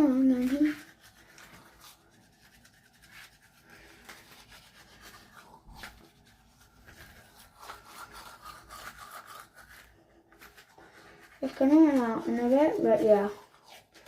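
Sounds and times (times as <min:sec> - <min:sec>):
faint rubbing and scratching: 0:00.0 - 0:14.0.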